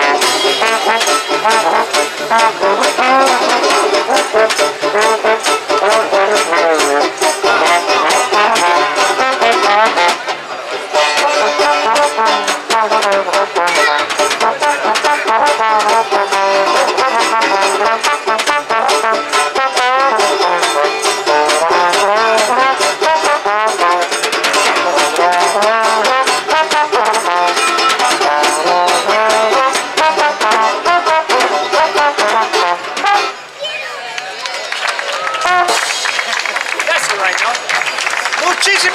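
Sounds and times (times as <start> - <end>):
stick-played percussion: 0.0 - 33.2, 35.6 - 38.9
trombone melody: 0.0 - 33.4, 35.4 - 36.3
strummed banjo: 0.0 - 33.5.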